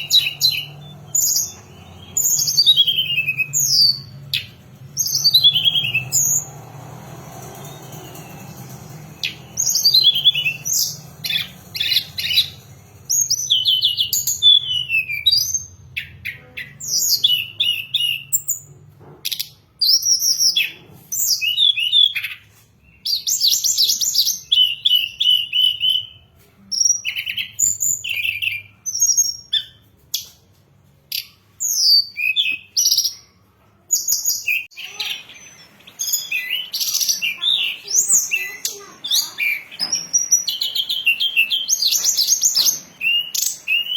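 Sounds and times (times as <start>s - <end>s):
bird singing chirps and trills: 0.0s - 18.7s, 19.3s - 26.2s, 26.8s - 30.3s, 34.0s - 43.9s.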